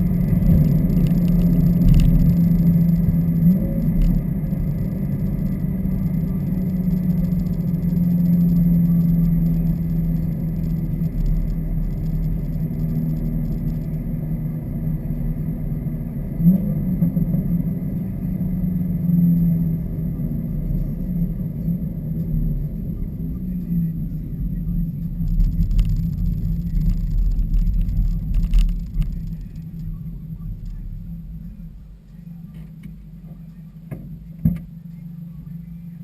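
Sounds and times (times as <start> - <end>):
car engine exhaust: 0.0 - 36.0.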